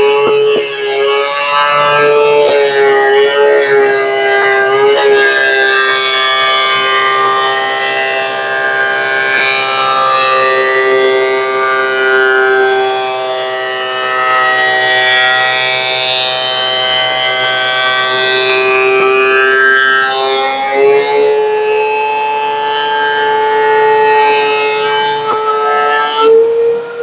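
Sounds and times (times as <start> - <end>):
thickness planer whining: 0.0 - 27.0.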